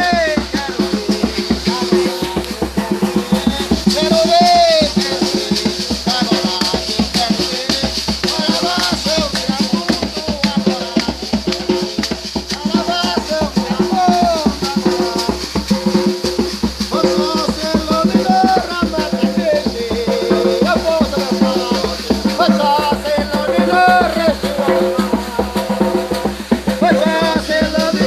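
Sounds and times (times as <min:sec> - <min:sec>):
person singing: 0:00.0 - 0:12.0, 0:12.6 - 0:15.6, 0:16.9 - 0:28.0
shaker and drums beat: 0:00.0 - 0:28.0.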